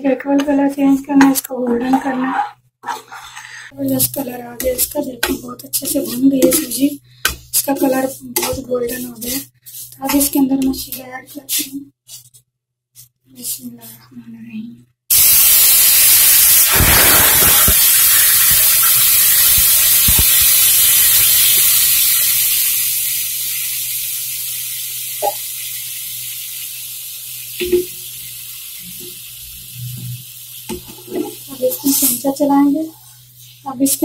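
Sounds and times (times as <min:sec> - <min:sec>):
syrup hissing and sizzling in pan: 0:02.9 - 0:12.2, 0:15.1 - 0:34.0.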